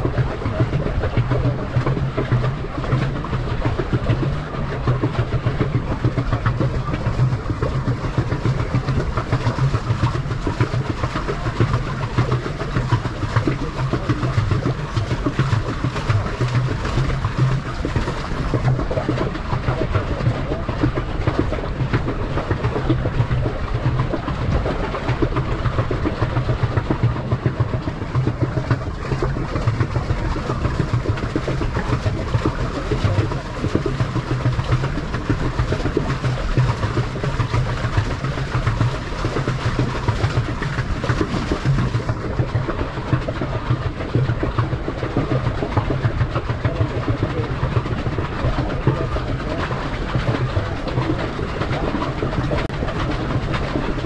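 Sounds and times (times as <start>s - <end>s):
low rumble: 0.0s - 54.0s
water sloshing against boat: 0.0s - 54.0s.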